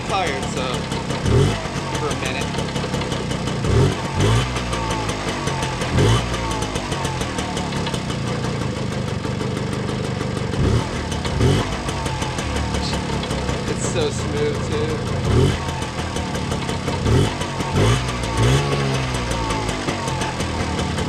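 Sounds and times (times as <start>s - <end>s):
moped engine idling and revving: 0.0s - 21.0s.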